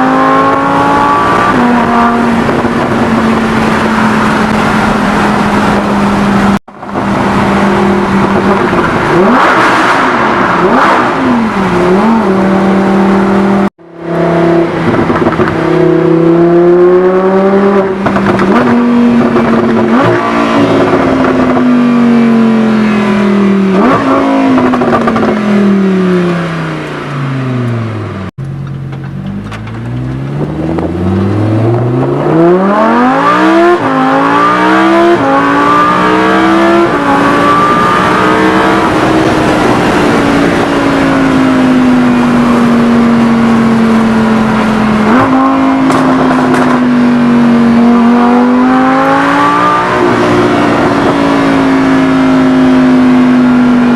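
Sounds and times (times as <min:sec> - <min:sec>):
sports car engine revving: 0:00.0 - 0:53.9.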